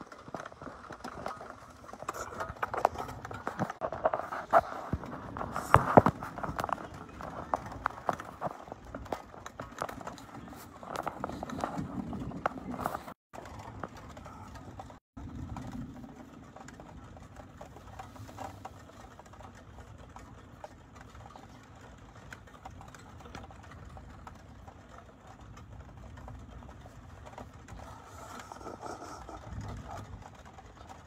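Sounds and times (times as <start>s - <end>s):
light irregular ticks: 0.0s - 31.0s.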